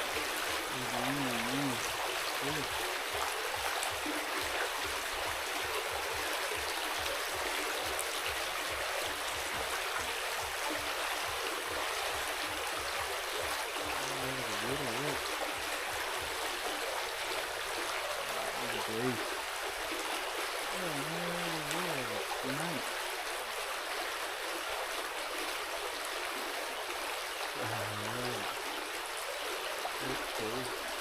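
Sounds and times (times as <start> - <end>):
stream flowing: 0.0 - 31.0.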